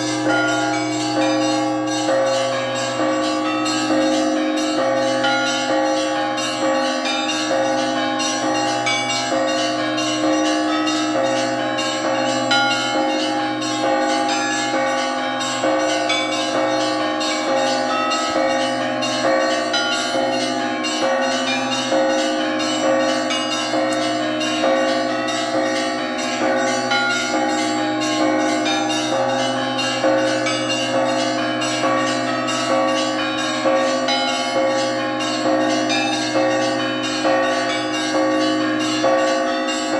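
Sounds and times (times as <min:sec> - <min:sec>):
hum of large low bells: 0:00.0 - 0:39.9.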